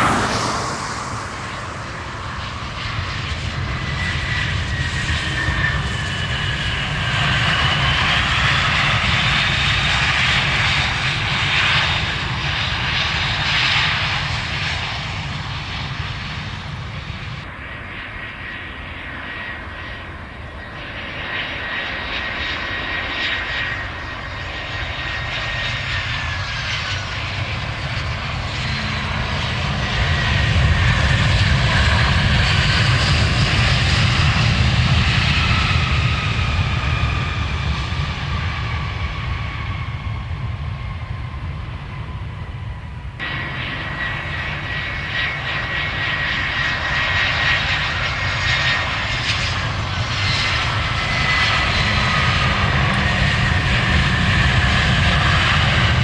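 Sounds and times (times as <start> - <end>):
jet engine rumble: 0.0 - 56.0
turbine whine: 0.0 - 56.0.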